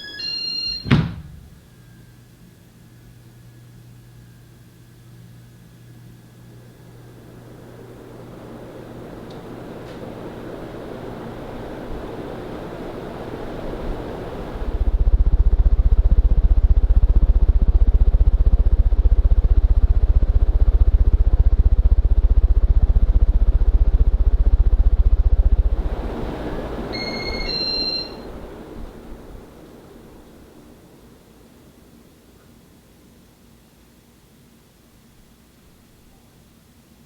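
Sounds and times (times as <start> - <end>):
ceiling fan air rush: 0.0 - 37.0
fan air buffeting microphone: 0.8 - 33.6.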